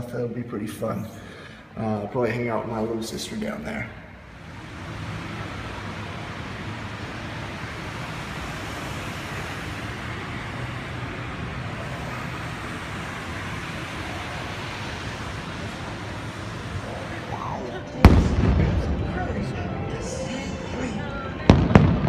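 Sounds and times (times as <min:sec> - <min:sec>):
echoey indoor rushing noise: 0:00.0 - 0:22.0
low hum: 0:03.8 - 0:22.0.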